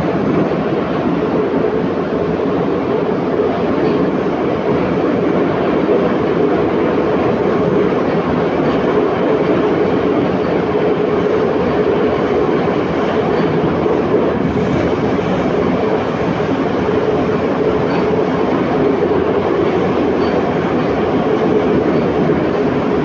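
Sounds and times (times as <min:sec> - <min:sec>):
steady hum: 0:00.0 - 0:23.0
wheels rumbling on rails: 0:00.0 - 0:23.0.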